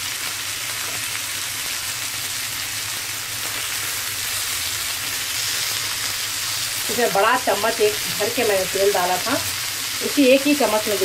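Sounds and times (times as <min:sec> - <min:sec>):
fish sizzling in a pan: 0:00.0 - 0:11.0.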